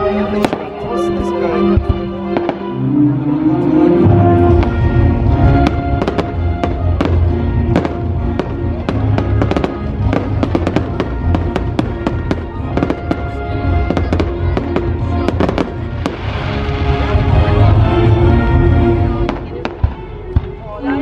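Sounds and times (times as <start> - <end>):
loud bass-heavy music: 0.0 - 21.0.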